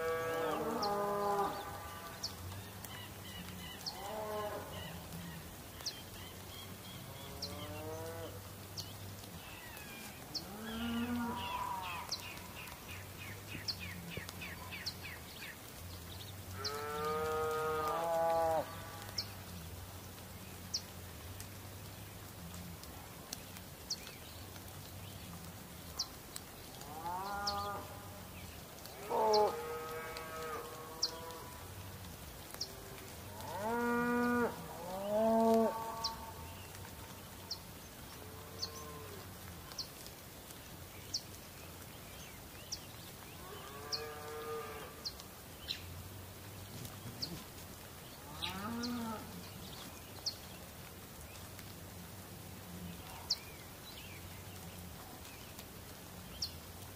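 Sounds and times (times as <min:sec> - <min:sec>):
background hiss: 0:00.0 - 0:56.9.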